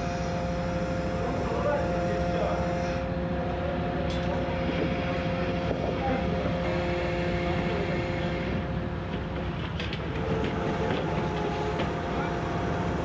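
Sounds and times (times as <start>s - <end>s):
machinery whining tones: 0.0s - 13.0s
ship engine low rumble: 0.0s - 13.0s.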